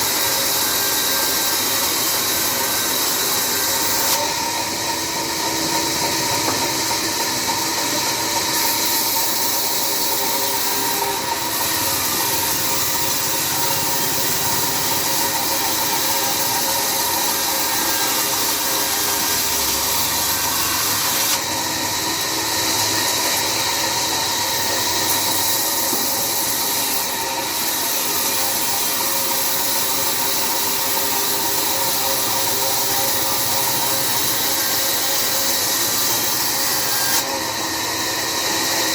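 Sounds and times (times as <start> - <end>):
saw blade cutting wood: 0.0 - 38.9
sawmill motor hum: 0.0 - 38.9.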